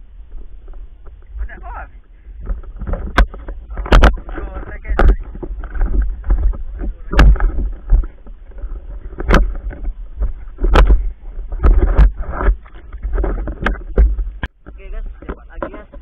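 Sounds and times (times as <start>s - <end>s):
steady low rumble: 0.0s - 16.0s
water sloshing and splashing: 0.0s - 16.0s
sharp knocks and clicks: 2.4s - 16.0s.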